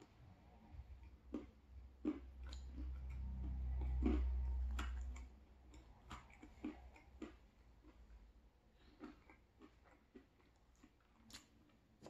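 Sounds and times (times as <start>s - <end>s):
chewing crispy pizza: 0.0s - 12.0s.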